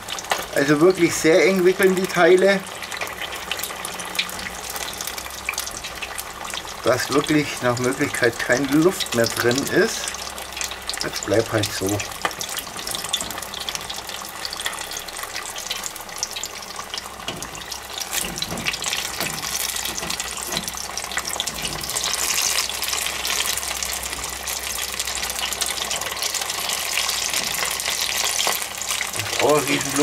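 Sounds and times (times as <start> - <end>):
oil sizzling and crackling: 0.0 - 30.0.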